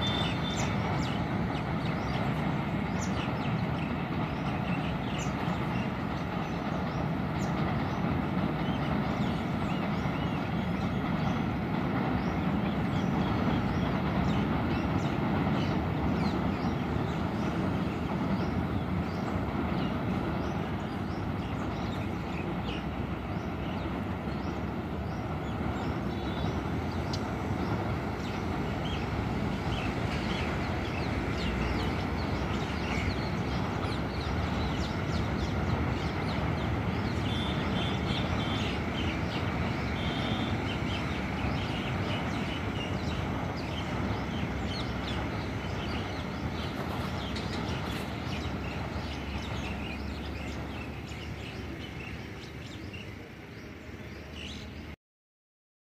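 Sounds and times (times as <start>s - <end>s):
train rumbling over steel bridge: 0.0s - 55.0s.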